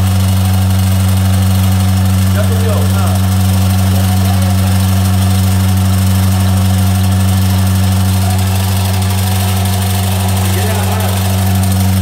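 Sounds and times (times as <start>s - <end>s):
electric vacuum pump humming: 0.0s - 12.0s.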